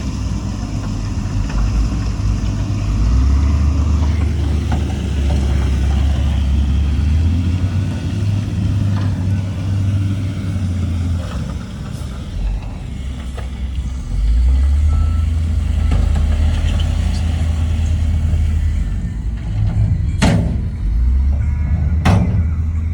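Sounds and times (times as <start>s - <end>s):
heavy machinery engine rumble: 0.0s - 22.9s.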